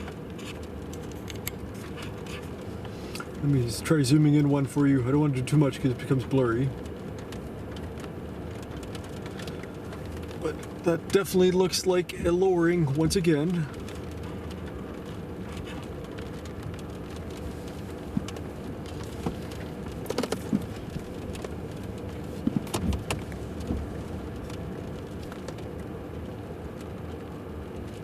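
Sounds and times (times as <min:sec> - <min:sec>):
engine idling hum: 0:00.0 - 0:28.0
rain on a vehicle roof: 0:00.0 - 0:28.0.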